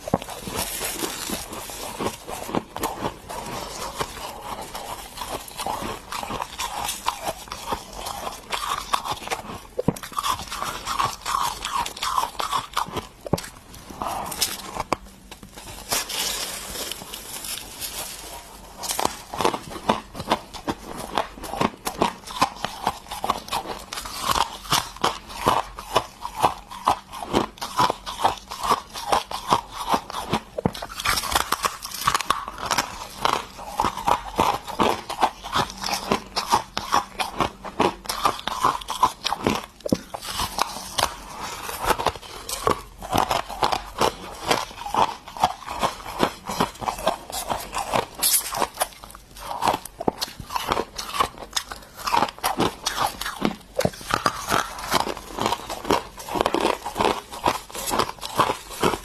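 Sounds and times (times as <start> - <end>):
ice crunching and chewing: 0.0 - 59.0.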